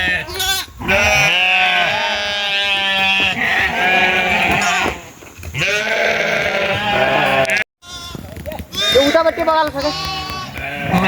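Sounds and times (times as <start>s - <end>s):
sheep bleating: 0.0s - 5.0s, 5.6s - 11.0s.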